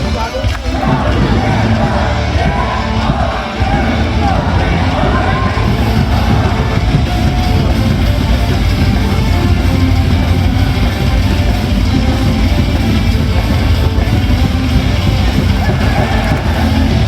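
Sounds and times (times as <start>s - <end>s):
rock music over loudspeakers: 0.0s - 17.0s.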